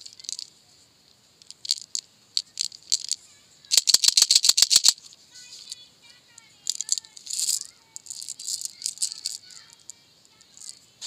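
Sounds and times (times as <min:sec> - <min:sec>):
candy rattling in plastic tube: 0:00.0 - 0:00.5, 0:01.4 - 0:05.8, 0:06.6 - 0:10.8.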